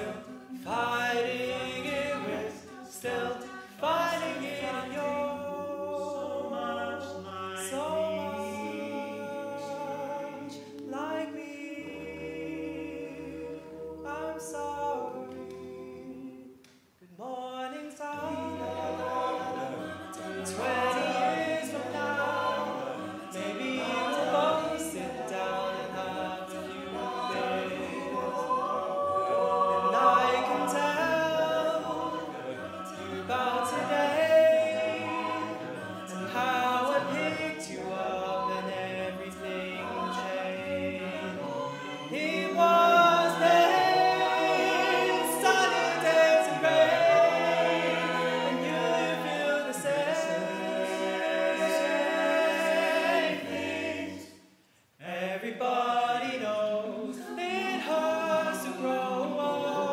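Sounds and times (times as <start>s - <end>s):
a cappella group singing in harmony: 0.0s - 59.9s.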